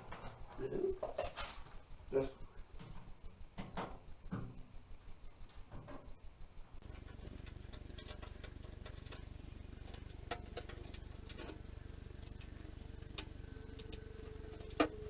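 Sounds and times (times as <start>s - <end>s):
faint steady tone: 0.0s - 15.0s
steady low hum: 0.0s - 15.0s.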